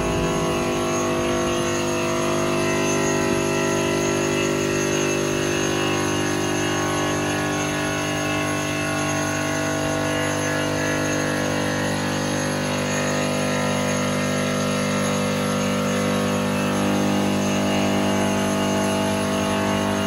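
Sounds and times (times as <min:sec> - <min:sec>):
stone cutting saw whining: 0:00.0 - 0:20.0.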